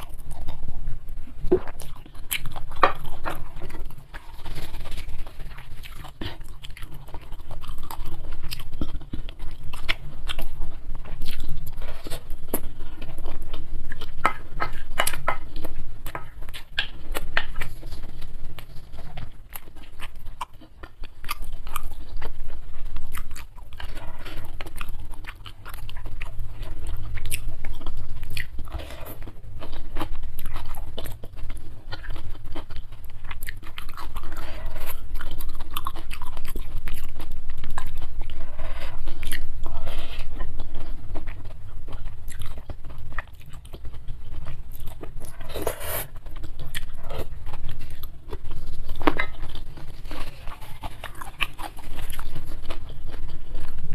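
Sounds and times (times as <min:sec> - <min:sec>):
person chewing noodles: 0:00.0 - 0:53.9.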